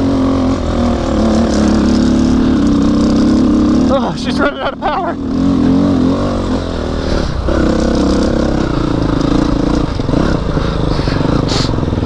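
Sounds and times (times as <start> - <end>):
dirt bike engine labouring: 0.0 - 12.0.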